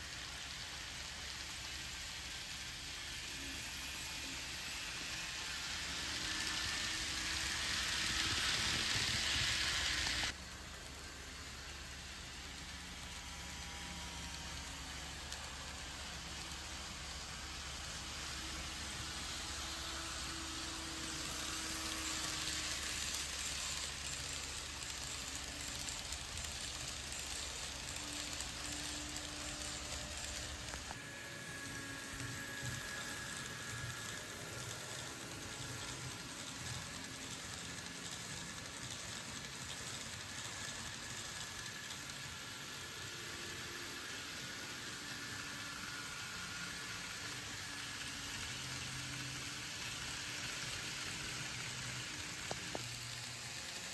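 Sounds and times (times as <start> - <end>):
model train wheels and motors whirring: 0.0 - 53.9.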